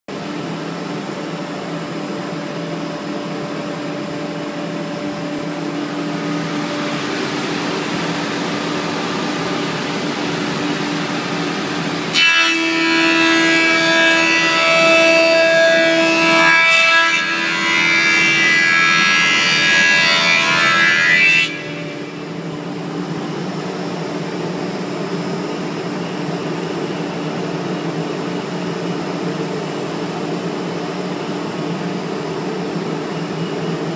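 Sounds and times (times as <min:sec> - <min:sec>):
machine humming: 0:00.1 - 0:33.9
high-pitched machining noise: 0:00.2 - 0:33.9.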